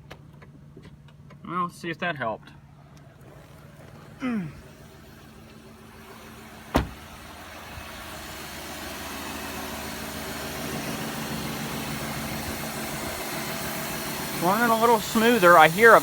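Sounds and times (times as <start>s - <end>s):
car engine idling: 2.5s - 16.0s.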